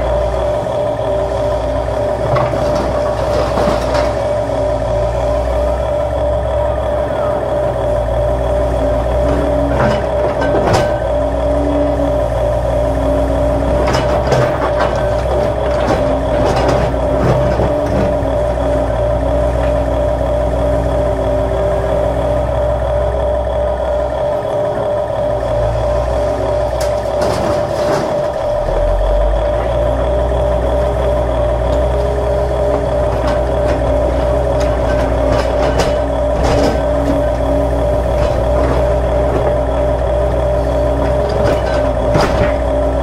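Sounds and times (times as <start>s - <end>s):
electric gear motors humming: 0.0s - 43.0s.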